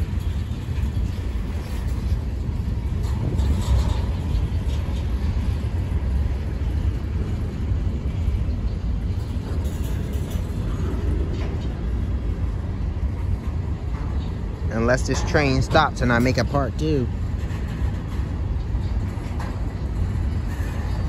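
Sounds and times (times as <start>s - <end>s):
steel wheels rumbling on rails: 0.0s - 21.0s.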